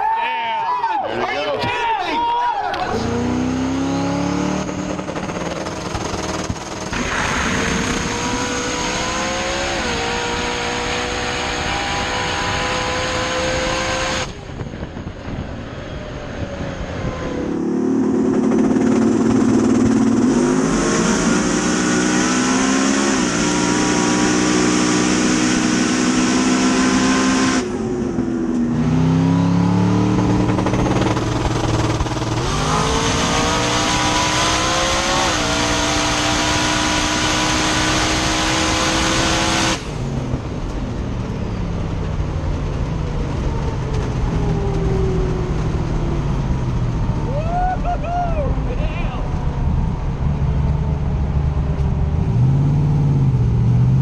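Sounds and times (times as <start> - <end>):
drag race car engine: 1.0 - 47.3.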